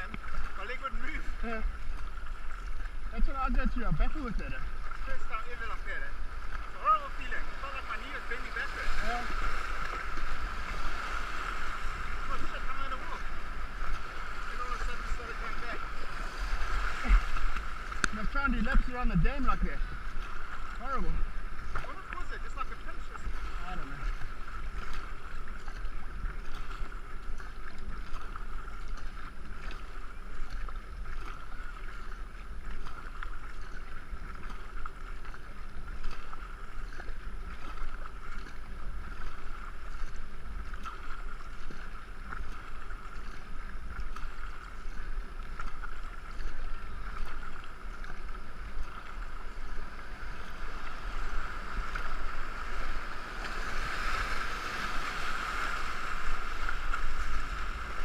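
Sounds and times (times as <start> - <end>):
water rushing and splashing: 0.0 - 58.0.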